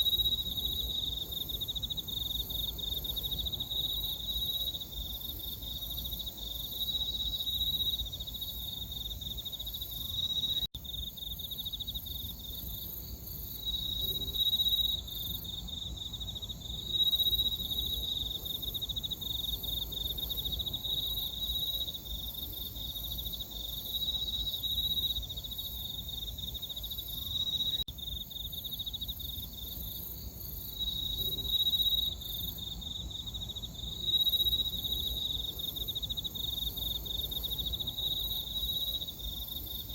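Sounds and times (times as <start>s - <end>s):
crickets chirping: 0.0s - 39.9s
faint high insect chirring: 0.0s - 39.9s.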